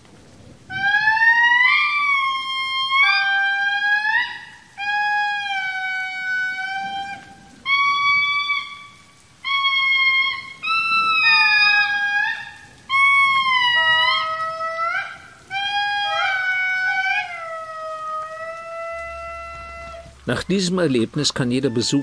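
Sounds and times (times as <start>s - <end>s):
indri singing horn-like notes: 0.7s - 21.0s.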